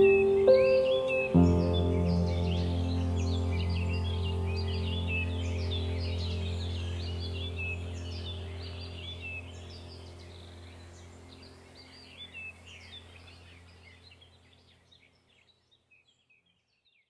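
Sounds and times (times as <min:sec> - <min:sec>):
low steady hum: 0:00.0 - 0:15.0
birds chirping: 0:00.0 - 0:17.0.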